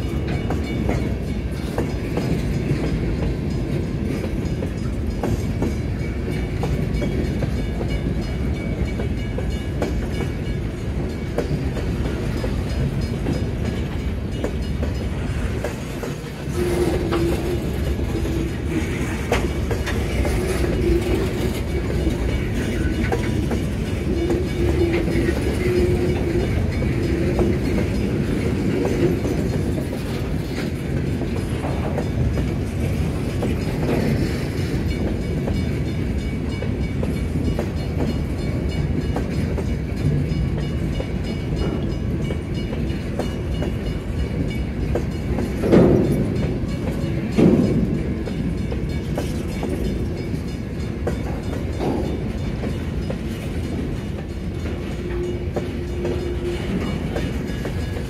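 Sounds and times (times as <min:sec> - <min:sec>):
freight train rumbling: 0:00.0 - 0:58.0
wheels clicking over rail joints: 0:00.0 - 0:58.0.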